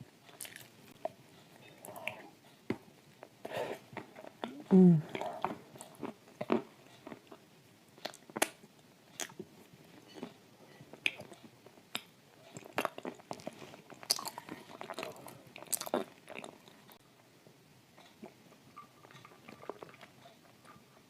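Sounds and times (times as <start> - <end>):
chewing and crunching cookies: 0.2 - 17.0, 18.0 - 20.9.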